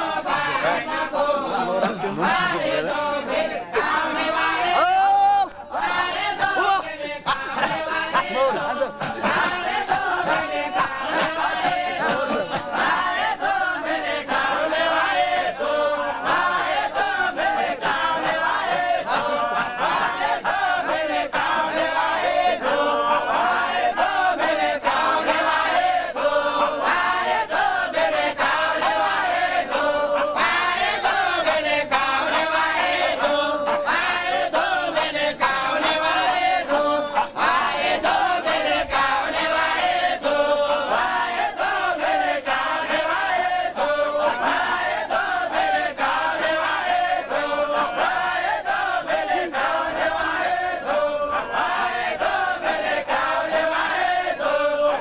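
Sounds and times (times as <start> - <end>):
men chanting in unison: 0.0 - 55.0.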